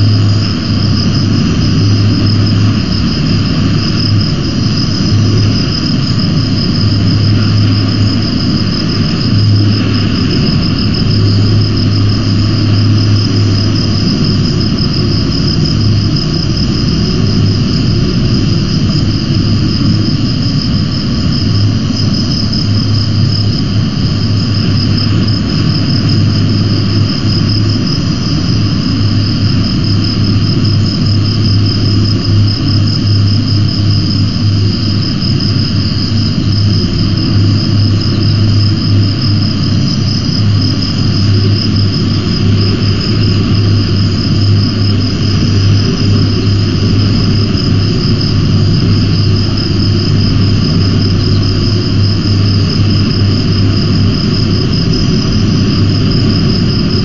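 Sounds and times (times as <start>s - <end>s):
high pulsing whine: 0.0s - 57.0s
wind rumbling on microphone: 0.0s - 57.0s.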